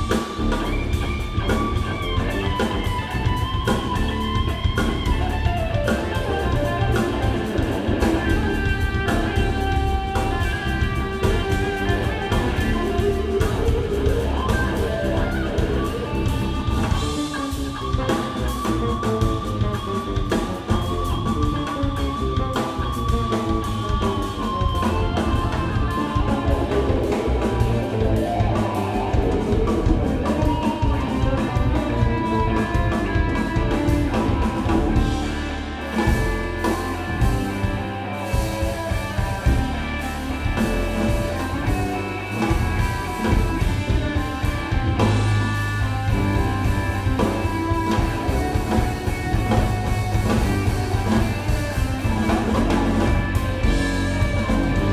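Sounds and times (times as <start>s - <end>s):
drum kit: 0.0s - 54.9s
electric bass: 0.0s - 54.9s
electric guitar lead lines: 0.0s - 54.9s.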